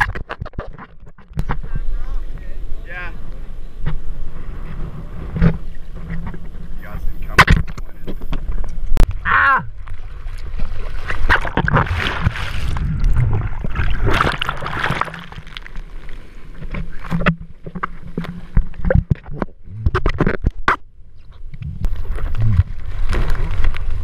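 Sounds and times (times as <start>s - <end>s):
water splashing against camera: 0.0s - 24.0s.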